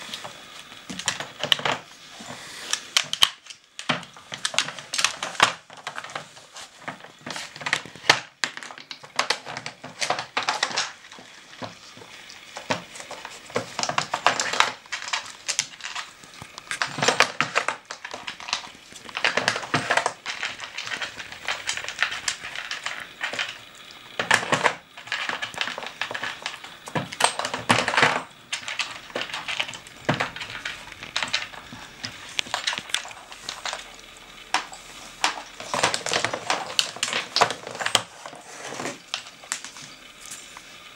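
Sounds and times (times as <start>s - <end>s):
plastic clacking and scraping: 0.0s - 40.4s.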